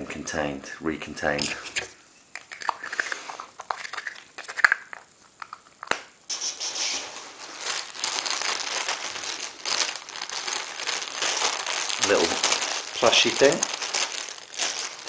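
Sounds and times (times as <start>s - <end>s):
plastic wrapping crinkling: 2.5s - 15.0s.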